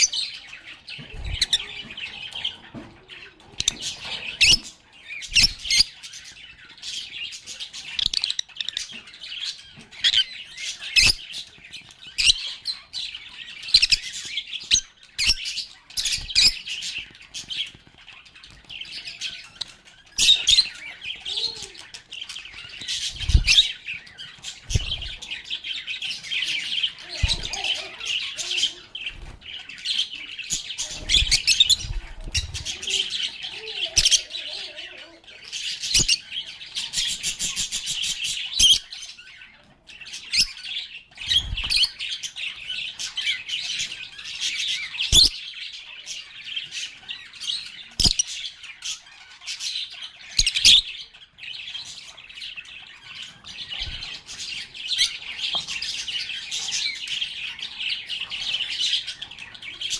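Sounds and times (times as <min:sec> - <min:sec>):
birds chattering and chirping: 0:00.0 - 0:59.9.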